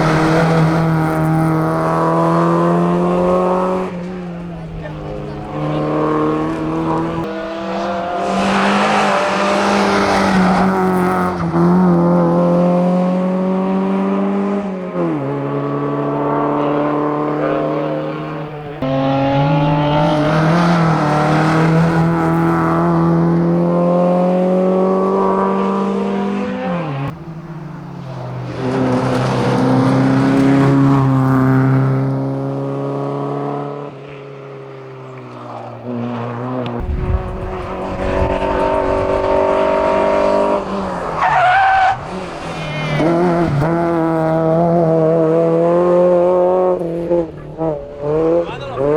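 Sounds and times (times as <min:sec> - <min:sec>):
car engine accelerating at full throttle: 0:00.0 - 0:48.9.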